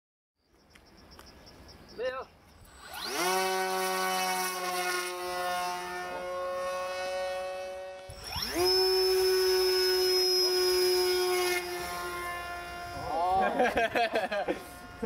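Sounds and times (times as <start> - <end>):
propeller motor whining: 2.6 - 15.0.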